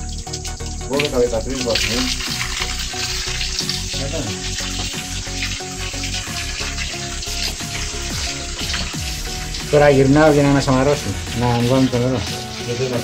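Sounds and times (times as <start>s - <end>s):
background music with steady beat: 0.0s - 13.0s
water pouring and splashing: 0.0s - 13.0s.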